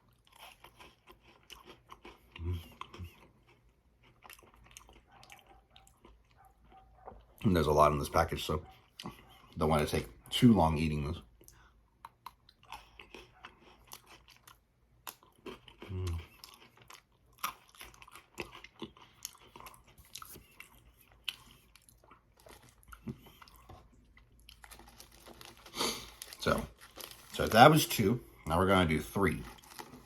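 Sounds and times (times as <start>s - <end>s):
chewing and crunching biscuit: 0.0s - 30.0s.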